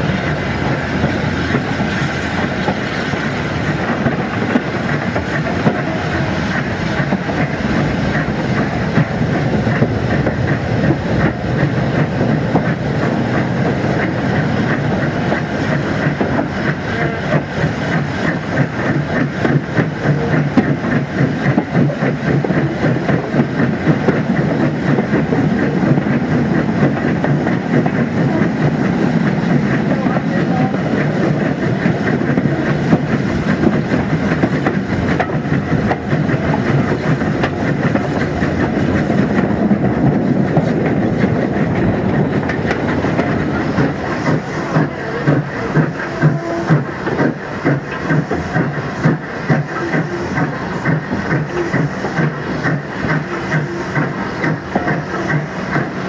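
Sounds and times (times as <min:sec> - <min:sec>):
steam train rumbling: 0:00.0 - 0:56.0
wheels clicking over rail joints: 0:00.0 - 0:56.0.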